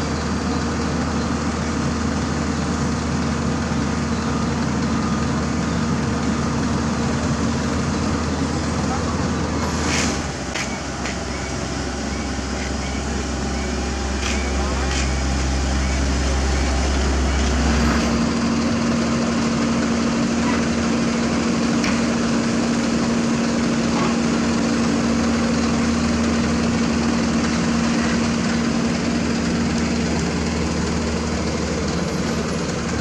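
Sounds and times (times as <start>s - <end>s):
dump truck engine droning: 0.0s - 33.0s
roller diesel engine: 0.0s - 33.0s.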